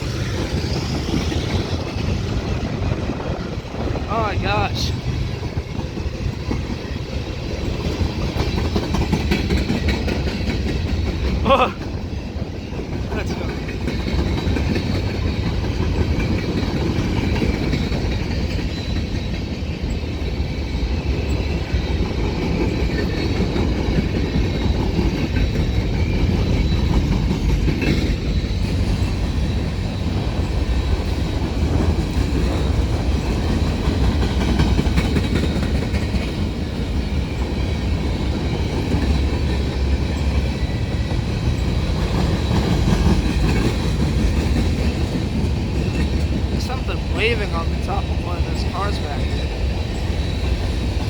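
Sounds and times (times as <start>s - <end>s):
freight train rumbling past: 0.0s - 51.0s
steel wheels clattering on rails: 0.0s - 51.0s.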